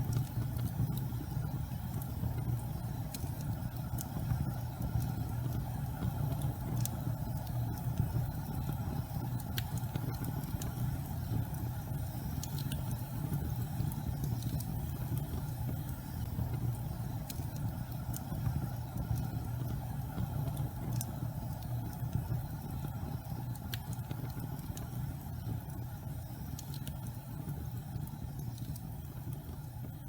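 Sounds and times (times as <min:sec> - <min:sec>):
faint crackles and ticks: 0:00.0 - 0:30.0
gas fireplace flames rumbling: 0:00.0 - 0:30.0.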